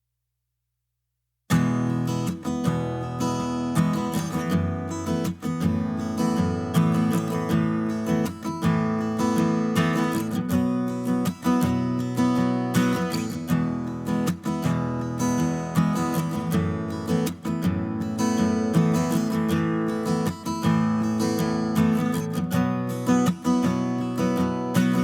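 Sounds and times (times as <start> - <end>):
strummed acoustic guitar music: 1.5 - 25.0.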